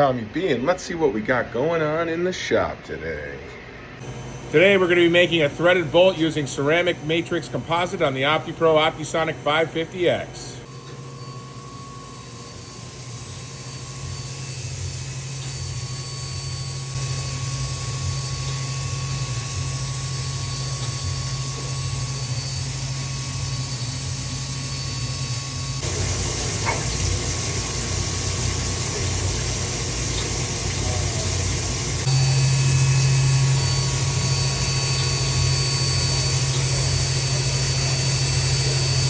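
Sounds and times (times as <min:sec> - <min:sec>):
cnc machine hum and hiss: 0:04.0 - 0:39.0.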